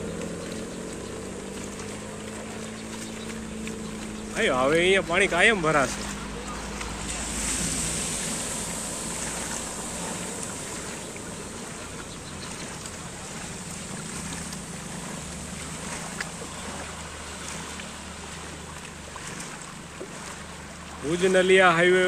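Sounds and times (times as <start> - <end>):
low engine hum: 0.0 - 22.0
vehicles splashing through floodwater: 0.0 - 22.0.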